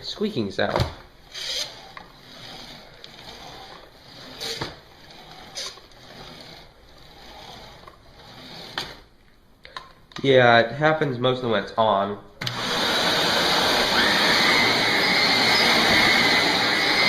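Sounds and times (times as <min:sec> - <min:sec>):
vacuum wheels rolling on floor: 0:00.0 - 0:09.4, 0:12.4 - 0:17.0.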